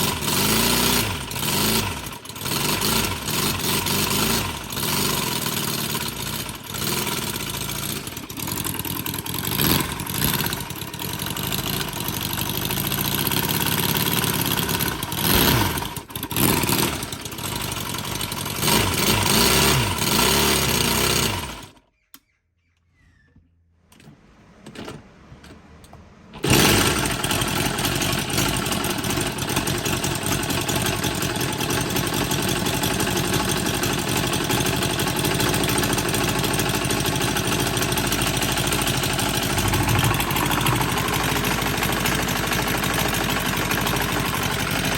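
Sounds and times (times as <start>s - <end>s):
engine rattles: 0.0s - 21.8s, 23.8s - 44.9s
model engine running: 0.0s - 21.8s, 26.4s - 44.9s.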